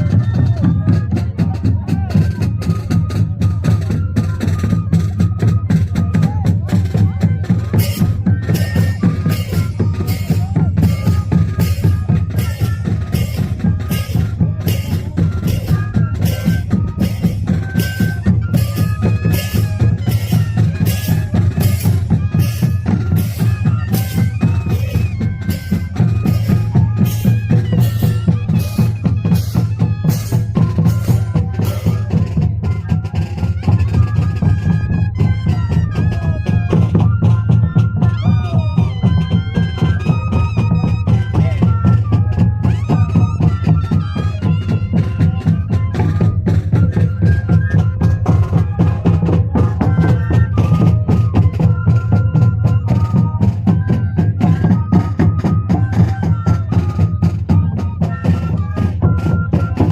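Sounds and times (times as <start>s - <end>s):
cane flutes playing melody: 0.0s - 59.9s
steady drum beat: 0.0s - 59.9s.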